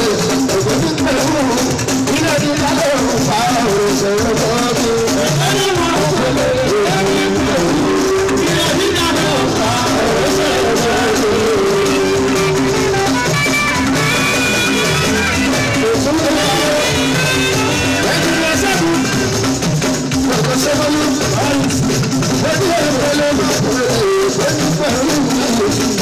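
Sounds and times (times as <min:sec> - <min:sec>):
man singing into a microphone: 0:00.0 - 0:13.2, 0:15.7 - 0:19.3, 0:20.2 - 0:21.8, 0:22.4 - 0:26.0
drums: 0:00.0 - 0:26.0.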